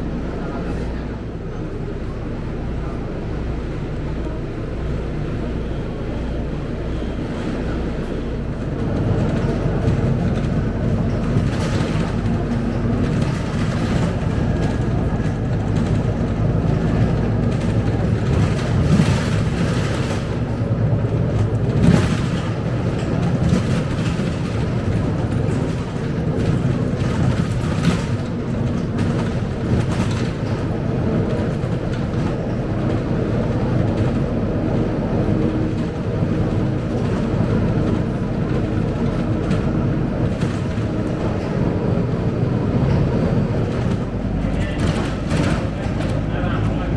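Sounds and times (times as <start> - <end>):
bus engine drone: 0.0 - 46.9
road noise: 0.0 - 46.9
body rattles and knocks: 8.6 - 46.9.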